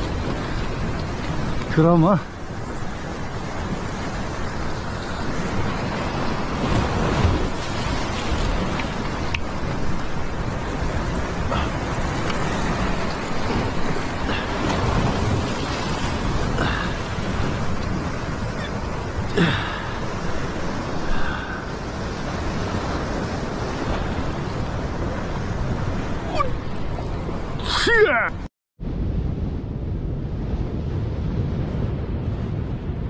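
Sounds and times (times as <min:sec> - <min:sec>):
surf breaking on rocks: 0:00.0 - 0:28.3.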